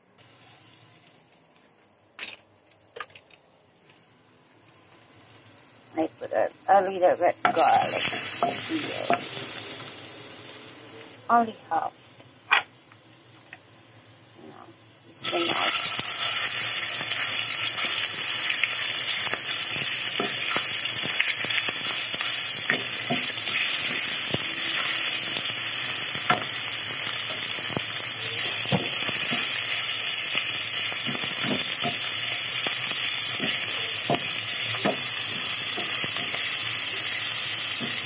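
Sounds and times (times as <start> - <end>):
meat sizzling in hot oil: 0.2 - 1.6, 4.2 - 14.2, 14.8 - 38.0.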